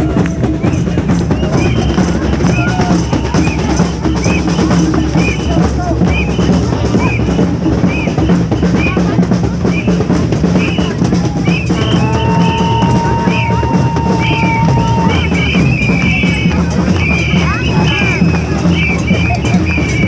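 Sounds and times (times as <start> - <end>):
drums playing a steady beat: 0.0 - 20.0.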